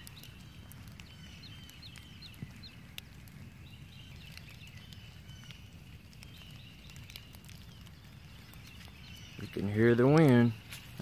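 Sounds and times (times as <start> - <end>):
frogs peeping: 0.0 - 11.0
wind buffeting microphone: 0.0 - 11.0.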